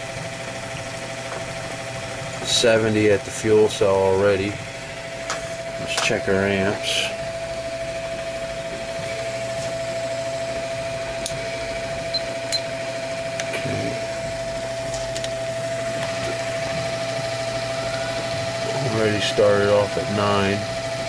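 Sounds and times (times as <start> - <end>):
equipment hum and hiss: 0.0 - 21.0
high whine: 0.0 - 21.0.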